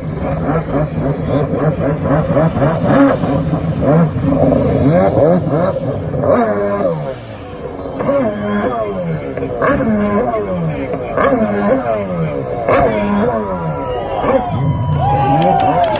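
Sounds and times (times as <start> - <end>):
jet ski engine revving: 0.0 - 15.9.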